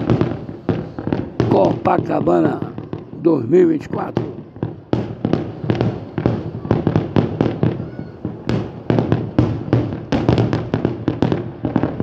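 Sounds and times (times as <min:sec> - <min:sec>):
fireworks shells bursting: 0:00.0 - 0:12.0.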